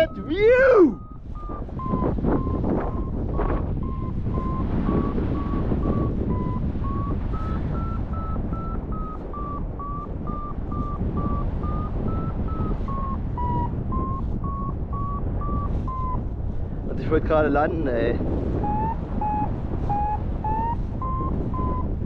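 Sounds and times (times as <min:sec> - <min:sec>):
variometer beeping: 0:00.0 - 0:16.4, 0:18.4 - 0:22.0
wind on microphone: 0:00.0 - 0:22.0.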